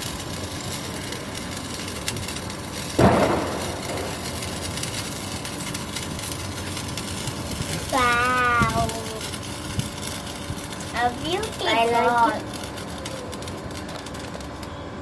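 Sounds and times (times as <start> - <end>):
sparkler fizzing and crackling: 0.0 - 14.8.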